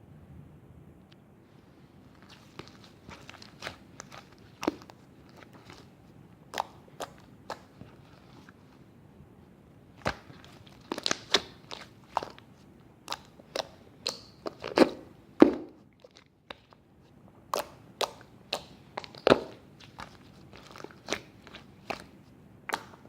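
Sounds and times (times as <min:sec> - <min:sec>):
slime squelching and popping: 0:02.1 - 0:08.5, 0:09.9 - 0:16.8, 0:17.5 - 0:23.0.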